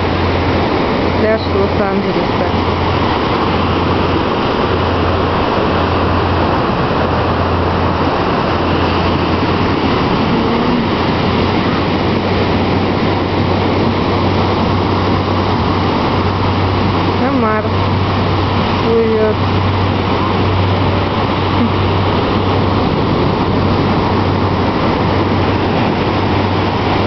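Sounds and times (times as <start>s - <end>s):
low rumble on microphone: 0.0s - 27.0s
ocean surf breaking: 0.0s - 27.0s.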